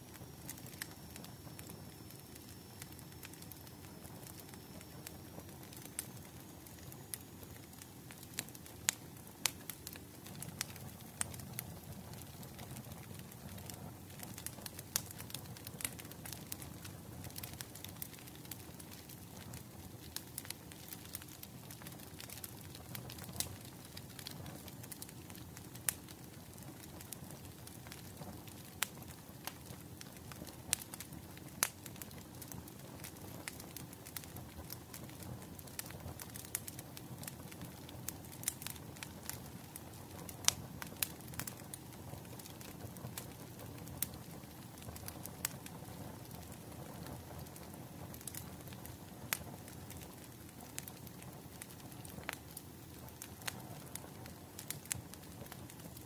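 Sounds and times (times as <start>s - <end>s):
wood fire crackling and popping: 0.0s - 56.0s
low rumble of flames: 0.1s - 56.0s.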